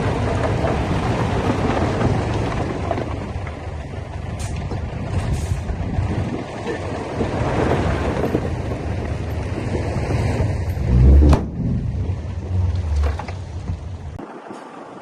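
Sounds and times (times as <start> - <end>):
heavy machinery rumbling: 0.0 - 14.2.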